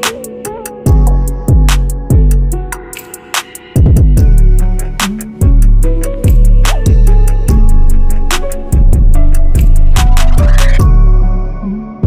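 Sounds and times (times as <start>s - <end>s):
deep bass line: 0.9s - 2.7s, 3.9s - 12.0s.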